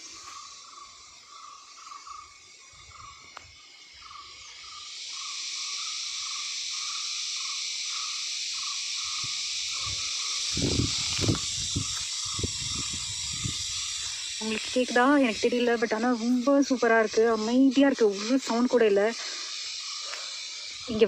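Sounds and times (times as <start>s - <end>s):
high hissing drone: 0.0s - 21.0s
steady chirping: 4.0s - 21.0s.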